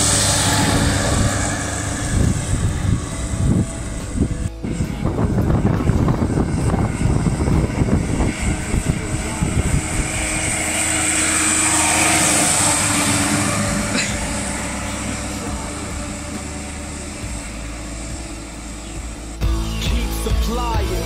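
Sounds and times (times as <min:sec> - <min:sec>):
wind buffeting microphone: 0:00.0 - 0:19.4
tractor engine running: 0:00.0 - 0:21.0.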